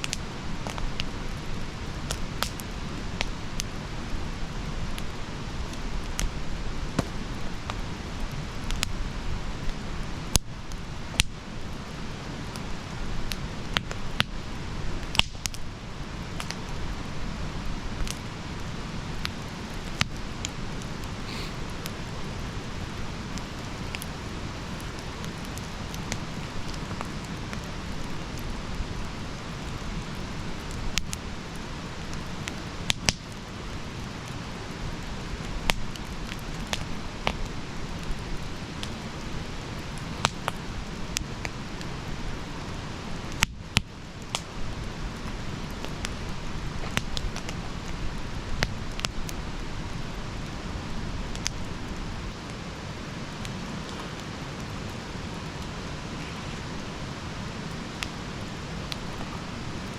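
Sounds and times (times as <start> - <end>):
campfire burning: 0.0 - 59.9
wood crackling and popping: 0.0 - 59.9.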